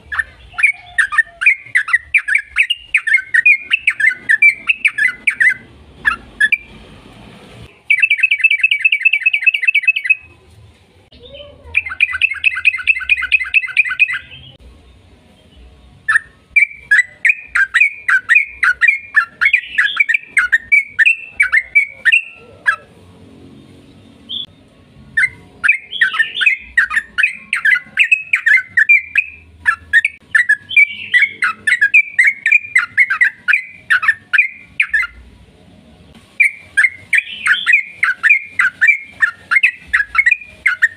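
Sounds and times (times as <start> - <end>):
bulbul singing: 0.0 - 6.8, 7.7 - 10.4, 11.2 - 23.0, 23.9 - 35.3, 36.4 - 40.9.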